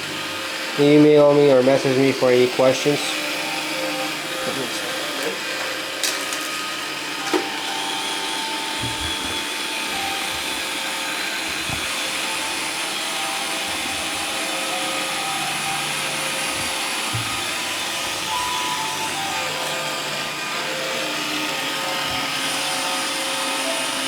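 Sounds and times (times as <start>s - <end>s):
robot vacuum whirring: 0.0s - 24.0s.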